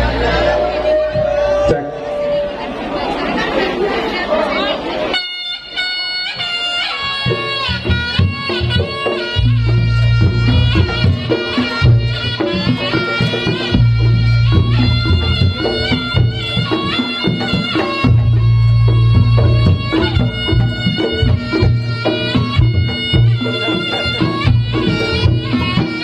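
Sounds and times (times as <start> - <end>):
percussion: 0.0 - 2.8, 5.1 - 26.0
shawm playing nasal melody: 0.0 - 3.2, 5.0 - 26.0.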